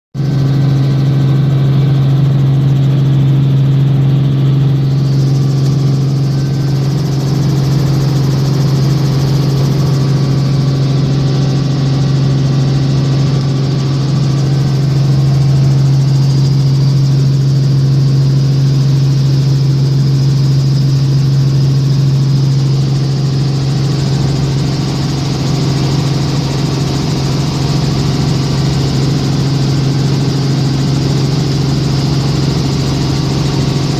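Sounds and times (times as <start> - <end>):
helicopter engine and rotor drone: 0.2 - 33.9.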